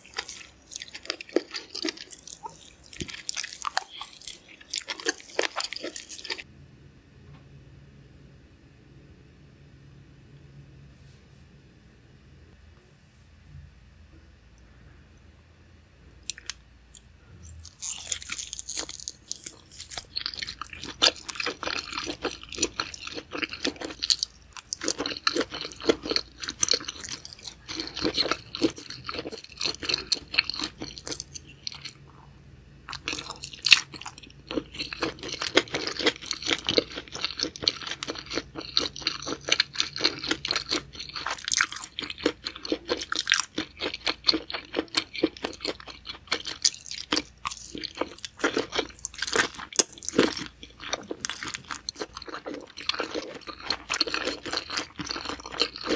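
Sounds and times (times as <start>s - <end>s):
close chewing and crunching: 0.0s - 6.5s, 16.2s - 32.3s, 32.9s - 55.9s.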